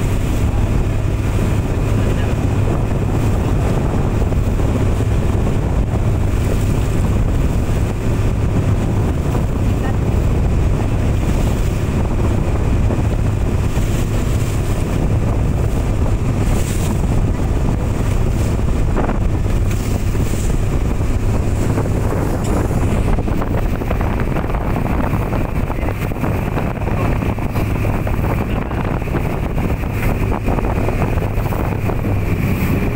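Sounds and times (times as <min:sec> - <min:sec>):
boat engine running: 0:00.0 - 0:32.9
water washing past hull: 0:00.0 - 0:32.9
wind buffeting microphone: 0:00.0 - 0:32.9.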